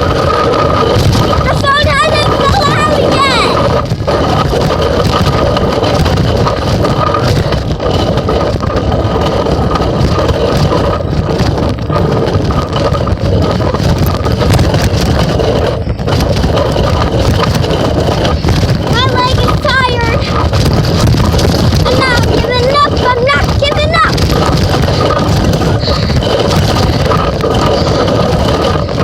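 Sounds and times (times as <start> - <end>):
bicycle wheels rumbling: 0.0 - 29.0
handling noise: 0.0 - 29.0
phone rattling in basket: 0.0 - 29.0.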